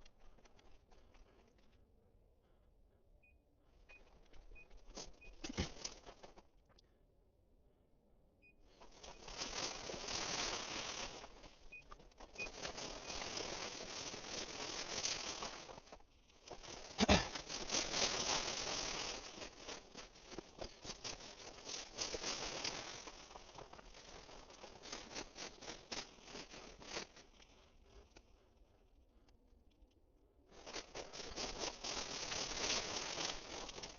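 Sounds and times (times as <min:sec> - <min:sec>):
dry grass rustling and crackling: 0:00.0 - 0:01.7, 0:03.7 - 0:06.6, 0:08.6 - 0:29.3, 0:30.5 - 0:33.9.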